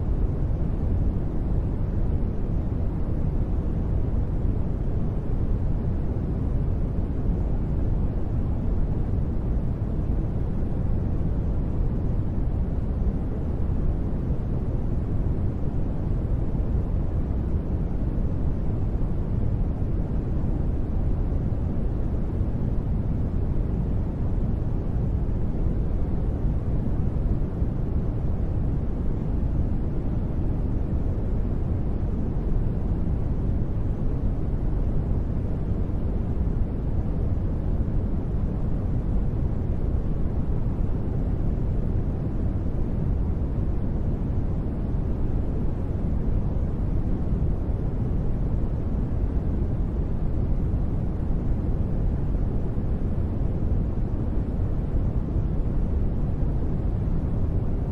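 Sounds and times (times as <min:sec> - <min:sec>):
deep white noise rumble: 0:00.0 - 0:57.9.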